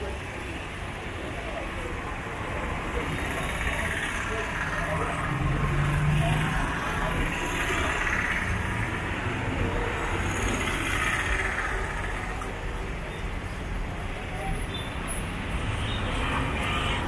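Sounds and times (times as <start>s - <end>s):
traffic passing: 0.0s - 17.0s.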